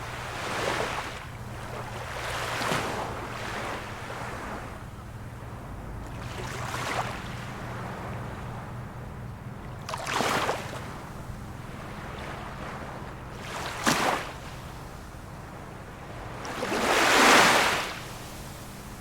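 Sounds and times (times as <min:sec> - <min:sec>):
small sea waves washing in: 0:00.0 - 0:19.0.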